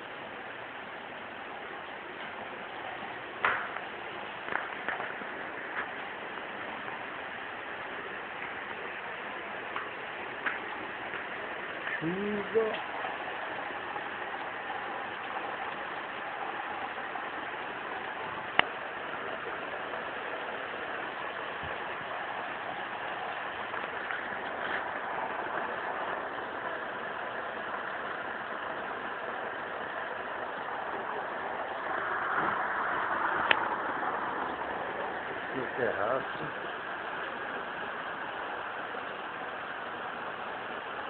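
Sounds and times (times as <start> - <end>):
heavy rain hissing: 0.0 - 41.0.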